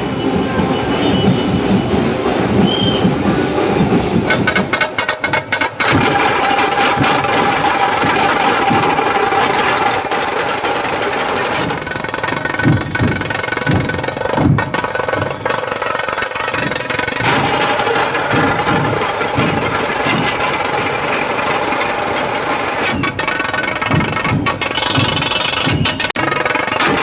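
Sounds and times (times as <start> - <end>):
procession drums playing: 0.0 - 26.2
loud street noise: 0.0 - 27.0.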